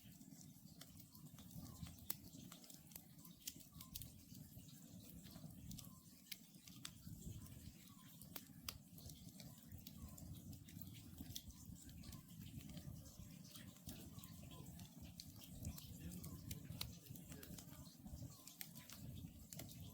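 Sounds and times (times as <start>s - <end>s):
campfire crackling and popping: 0.1s - 19.9s.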